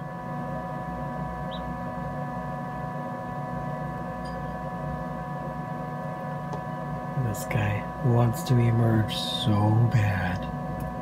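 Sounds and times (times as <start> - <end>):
incubator fan humming: 0.0 - 11.0.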